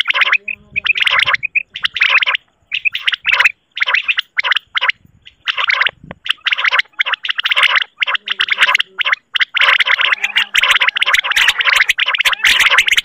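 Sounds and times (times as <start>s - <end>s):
recorded quail calls: 0.0s - 13.0s.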